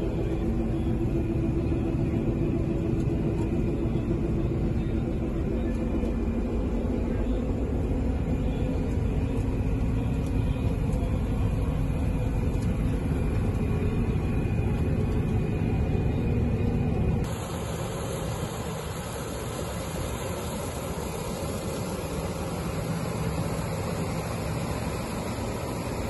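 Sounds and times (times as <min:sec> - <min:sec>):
combine harvester engine rumble: 0:00.0 - 0:26.0
faint high whine: 0:00.0 - 0:26.0.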